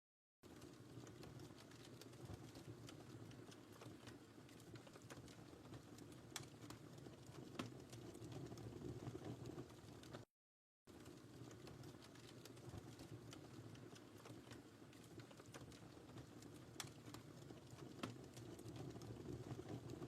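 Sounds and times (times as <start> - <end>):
wood fire crackling: 0.4 - 10.3, 10.9 - 20.0.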